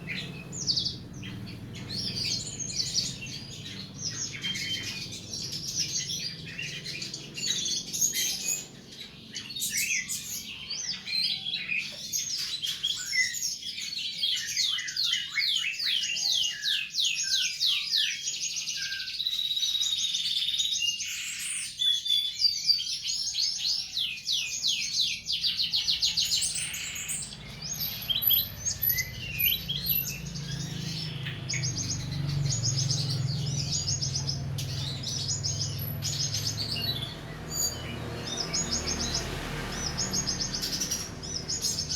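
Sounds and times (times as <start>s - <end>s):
songbirds chirping and trilling: 0.0s - 41.9s.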